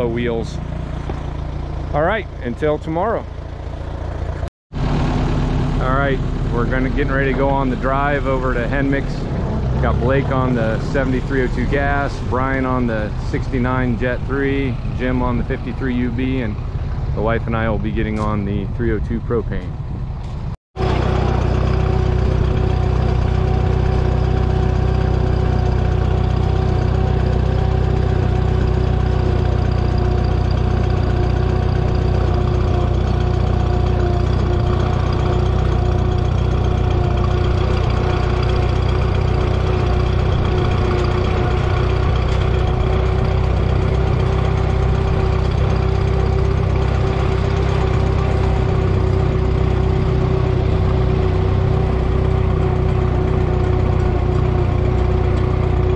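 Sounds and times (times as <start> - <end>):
tractor engine idling: 0.0 - 55.9.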